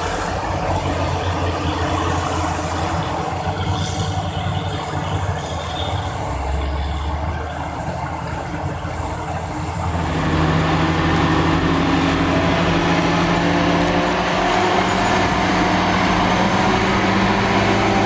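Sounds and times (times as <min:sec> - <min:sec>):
heavy vehicle engines humming: 0:00.0 - 0:18.0.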